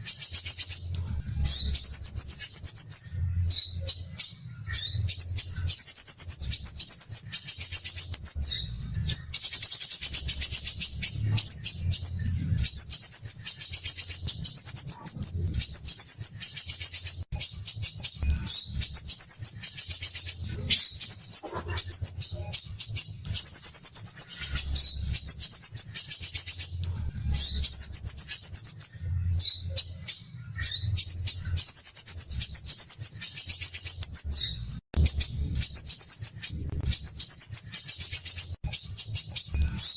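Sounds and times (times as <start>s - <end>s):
sunbird high-pitched trills: 0.0s - 39.9s.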